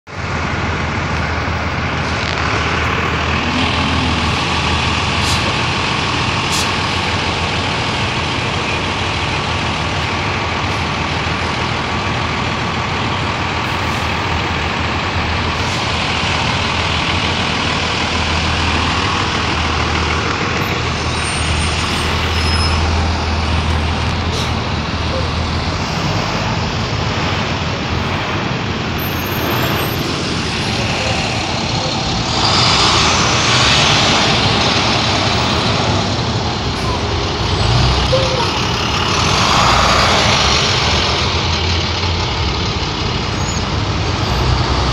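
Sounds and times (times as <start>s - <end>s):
bus diesel engines running: 0.1s - 44.9s.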